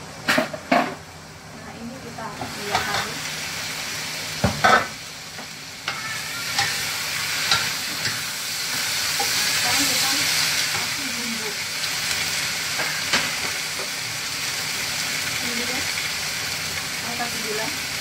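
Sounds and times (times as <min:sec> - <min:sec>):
cabbage sizzling in a wok: 0:00.0 - 0:18.0.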